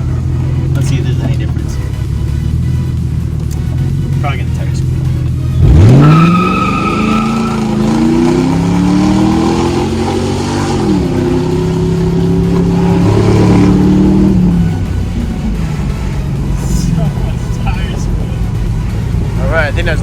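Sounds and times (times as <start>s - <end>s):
car engine accelerating hard: 0.0s - 20.0s
tires squealing: 3.3s - 20.0s.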